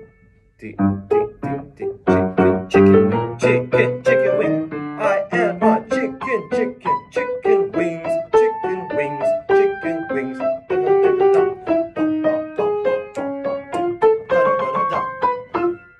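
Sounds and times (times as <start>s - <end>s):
piano melody: 0.0s - 15.9s.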